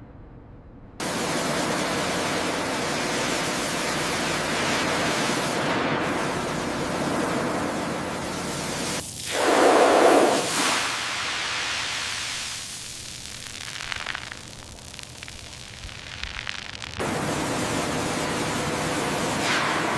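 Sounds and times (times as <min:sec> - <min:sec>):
high-pressure blast hose hissing: 0:01.0 - 0:17.6.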